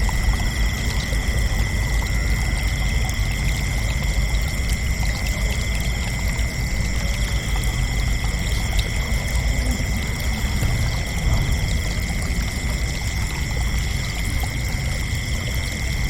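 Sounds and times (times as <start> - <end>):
low rumble: 0.0 - 15.0
crickets chirping: 0.0 - 16.0.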